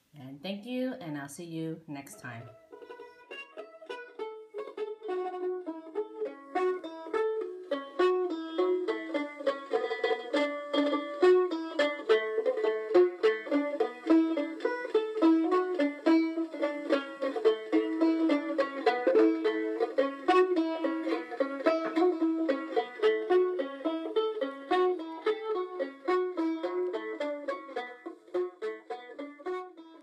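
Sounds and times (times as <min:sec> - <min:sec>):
plucked string tune: 0:02.0 - 0:30.0.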